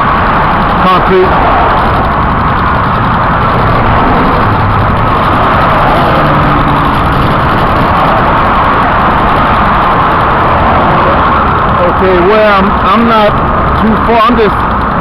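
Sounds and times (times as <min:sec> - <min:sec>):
road noise: 0:00.0 - 0:15.0
wind on microphone: 0:00.0 - 0:15.0.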